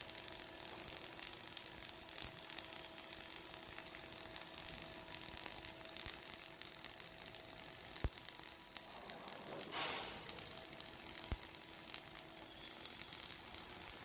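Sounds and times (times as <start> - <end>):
welding arc crackling: 0.0 - 14.0.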